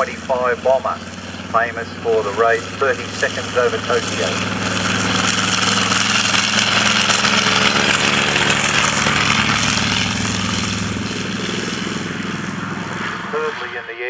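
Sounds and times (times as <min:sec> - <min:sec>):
radial aircraft engine droning: 0:00.0 - 0:14.0.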